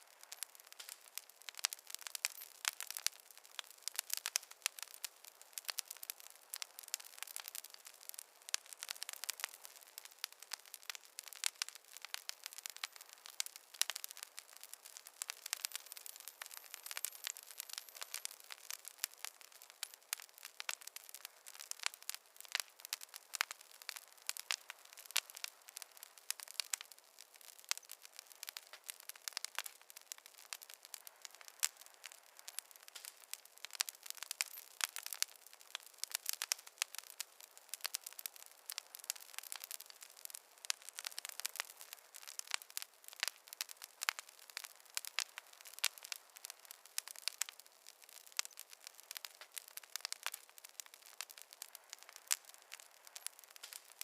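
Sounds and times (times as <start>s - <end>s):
fireplace fire crackling: 0.0s - 54.0s.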